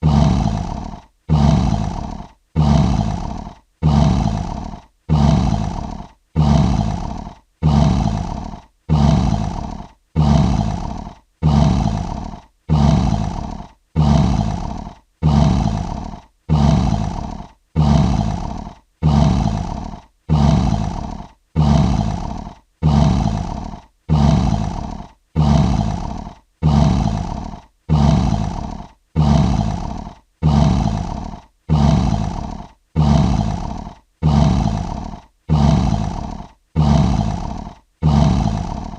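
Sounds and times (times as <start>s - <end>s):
lion roaring: 0.0s - 38.9s.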